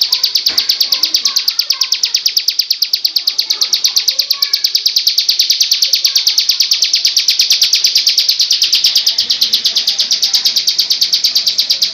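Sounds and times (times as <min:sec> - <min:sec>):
bird singing fast trill: 0:00.0 - 0:11.9.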